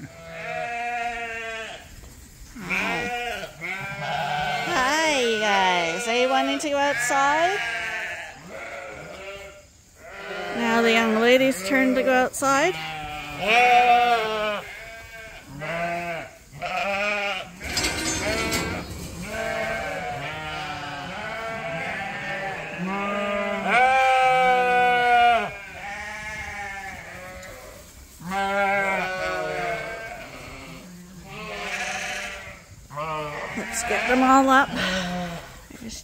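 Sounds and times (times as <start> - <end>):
sheep bleating: 0.0 - 1.8, 2.6 - 35.6.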